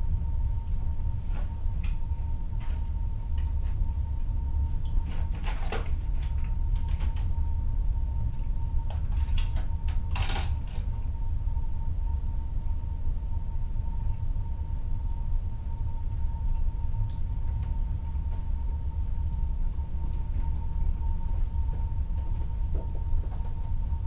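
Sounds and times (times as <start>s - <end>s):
faint constant hum: 0.0s - 24.0s
low rumble of sea: 0.0s - 24.0s.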